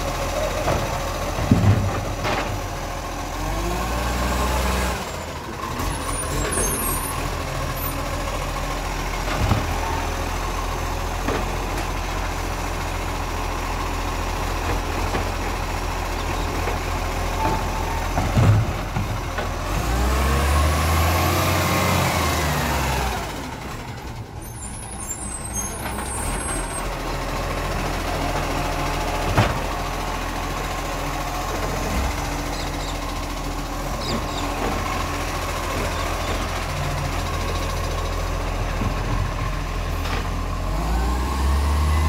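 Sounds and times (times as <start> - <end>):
garbage truck diesel engine: 0.0 - 42.0.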